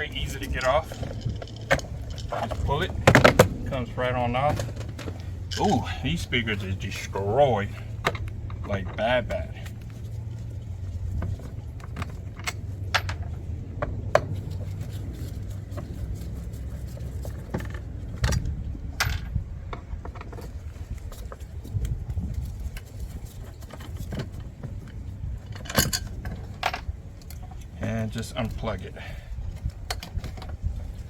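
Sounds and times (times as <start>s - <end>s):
hand tools clicking and scraping: 0.0s - 31.0s.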